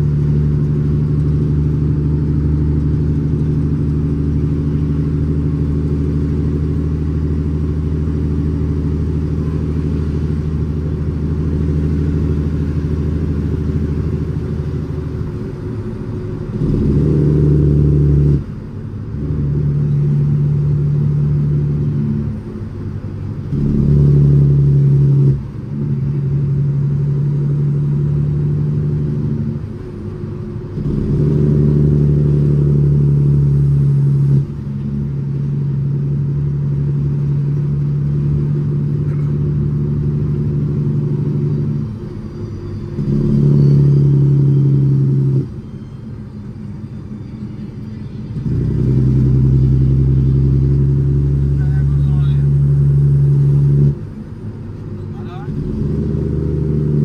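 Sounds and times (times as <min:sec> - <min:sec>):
truck engine running under load: 0:00.0 - 0:57.0.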